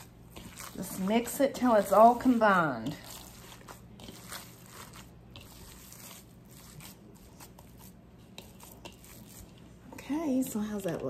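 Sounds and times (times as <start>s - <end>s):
hands kneading meat squishing: 0.0s - 10.4s.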